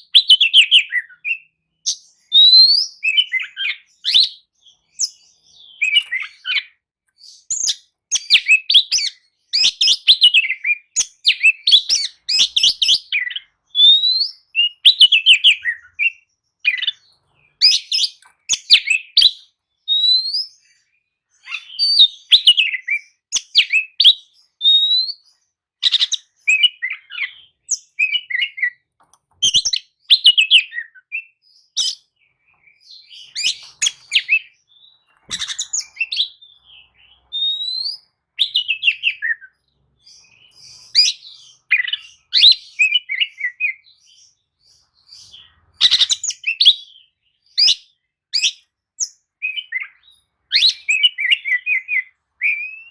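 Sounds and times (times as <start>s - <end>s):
bird singing varied song: 0.0s - 52.9s.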